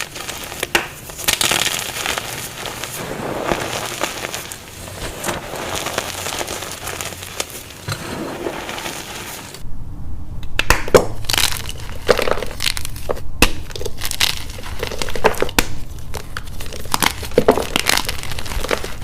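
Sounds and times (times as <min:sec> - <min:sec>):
chalk crunching and crumbling: 0:00.0 - 0:09.6, 0:11.2 - 0:19.0.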